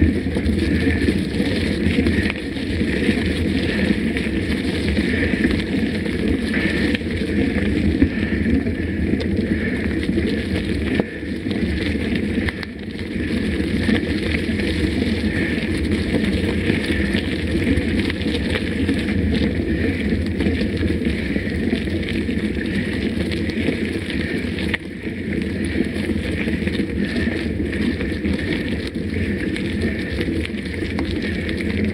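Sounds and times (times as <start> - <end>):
bike tyre and drivetrain rumble: 0.0 - 31.9
wind on microphone: 0.0 - 31.9.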